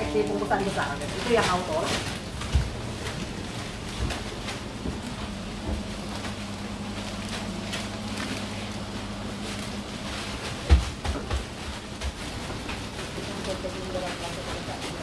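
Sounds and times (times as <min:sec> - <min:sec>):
band sealer electric hum: 0:00.0 - 0:15.0
plastic packets rustling and clicking: 0:00.0 - 0:15.0.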